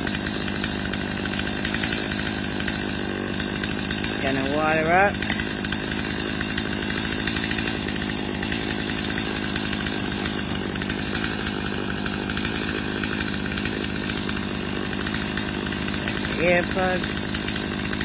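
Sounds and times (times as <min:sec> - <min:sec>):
chainsaw idling: 0:00.0 - 0:18.0.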